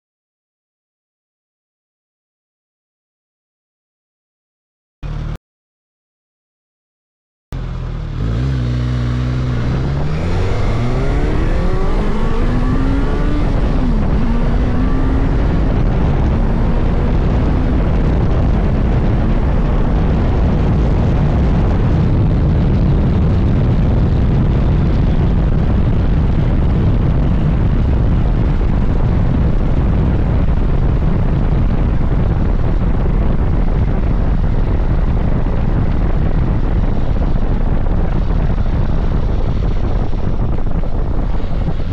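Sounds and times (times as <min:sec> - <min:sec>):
motorcycle engine accelerating: 0:05.0 - 0:05.4, 0:07.6 - 0:41.9
wind rushing: 0:08.2 - 0:41.9.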